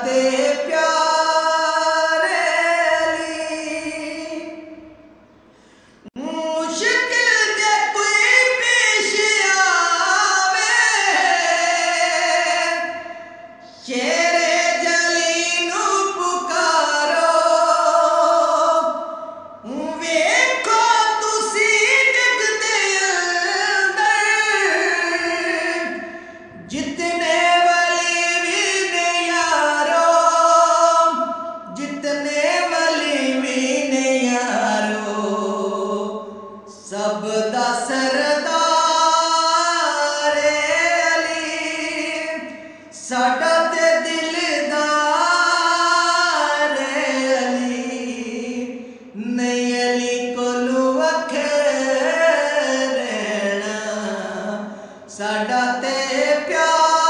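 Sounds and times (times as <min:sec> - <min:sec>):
man singing unaccompanied: 0:00.0 - 0:04.9, 0:06.0 - 0:57.0.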